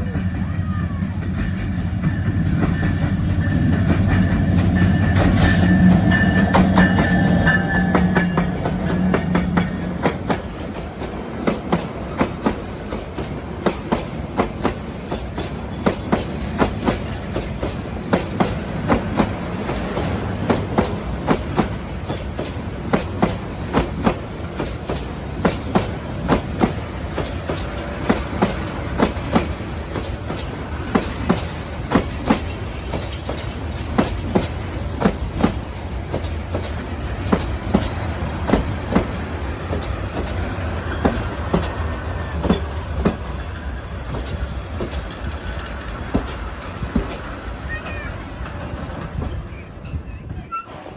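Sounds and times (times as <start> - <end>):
train rumble: 0.0 - 50.9
train wheels clacking over rail joints: 0.0 - 50.9.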